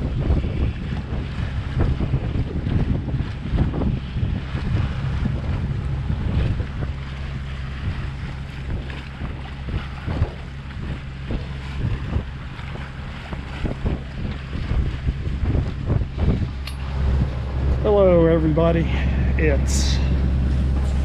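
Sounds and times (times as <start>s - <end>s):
water washing along hull: 0.0s - 21.0s
wind gusting over microphone: 0.0s - 21.0s.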